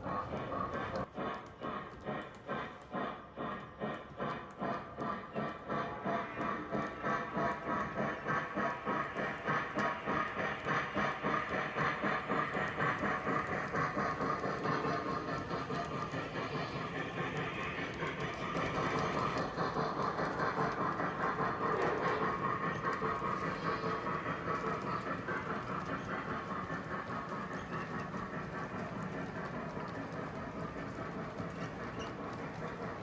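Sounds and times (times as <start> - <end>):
model train rumbling on rails: 0.0 - 33.0.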